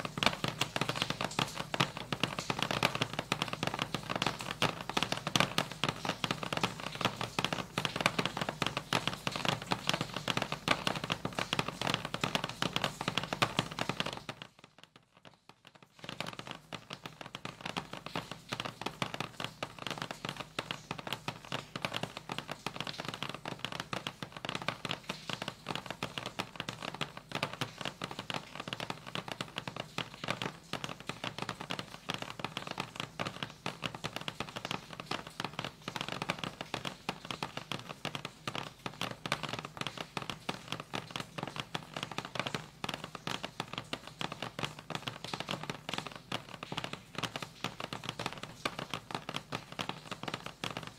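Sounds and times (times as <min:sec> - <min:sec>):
dense crackle of rapid clicks: 0:00.0 - 0:50.9.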